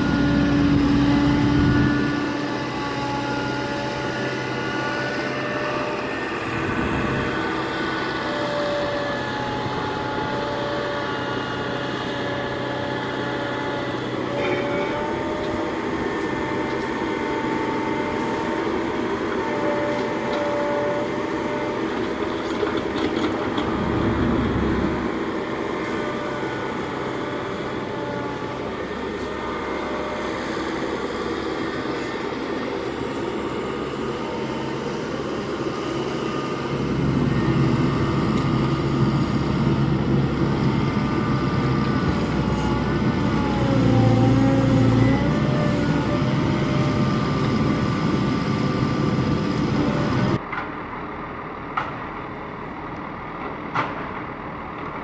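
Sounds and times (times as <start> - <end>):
hydraulic whine: 0.0 - 50.5
heavy diesel engine running: 0.0 - 55.0.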